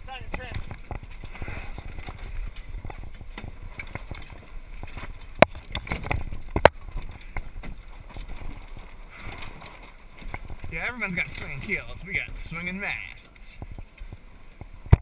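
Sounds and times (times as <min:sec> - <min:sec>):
water sloshing: 0:00.0 - 0:15.0
wind noise: 0:00.0 - 0:15.0.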